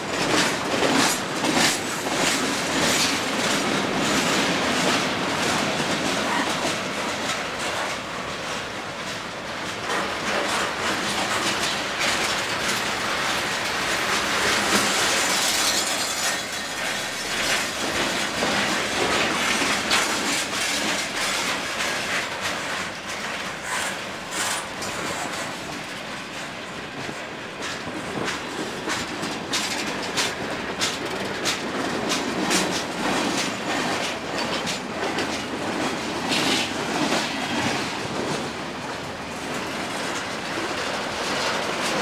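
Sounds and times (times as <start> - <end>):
train wheels clattering over rail joints: 0.0 - 42.0.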